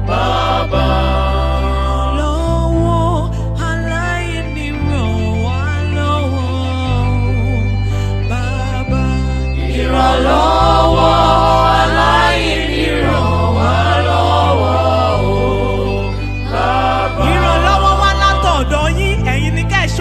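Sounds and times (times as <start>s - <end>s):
voices singing gospel: 0.0s - 7.3s, 8.2s - 20.0s
sustained low chords: 0.0s - 20.0s.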